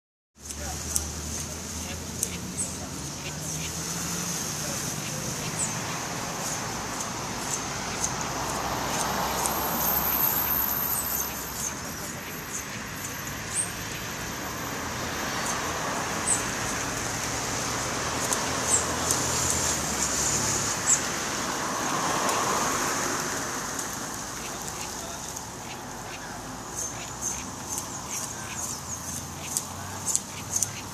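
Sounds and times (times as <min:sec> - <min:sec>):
cars passing: 0:00.4 - 0:30.9
road traffic noise: 0:00.4 - 0:30.9
wren calling: 0:00.9 - 0:30.9.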